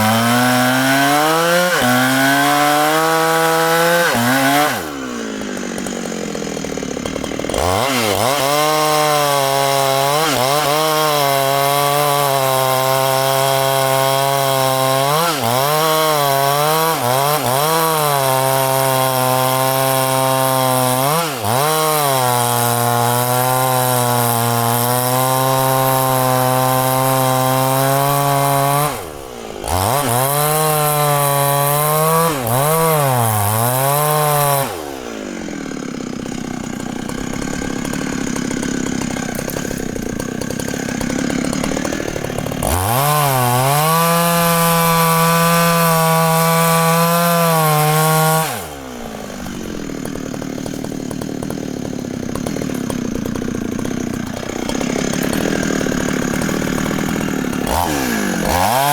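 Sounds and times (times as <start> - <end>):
chainsaw cutting: 0.0 - 58.9.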